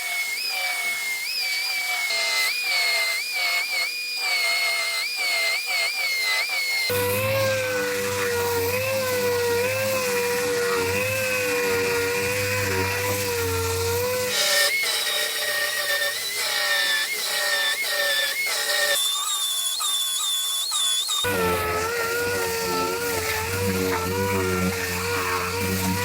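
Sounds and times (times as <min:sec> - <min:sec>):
power tool whining: 0:00.0 - 0:26.0.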